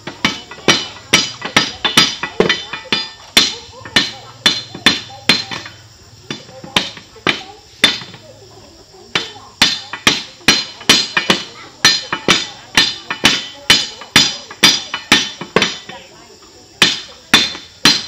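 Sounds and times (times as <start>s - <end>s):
hammer striking metal: 0.0s - 8.2s, 9.1s - 16.0s, 16.8s - 18.0s.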